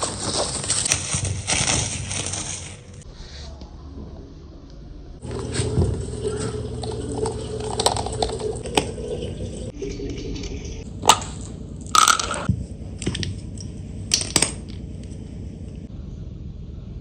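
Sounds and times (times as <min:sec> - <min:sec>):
steady hum: 0:02.8 - 0:17.0.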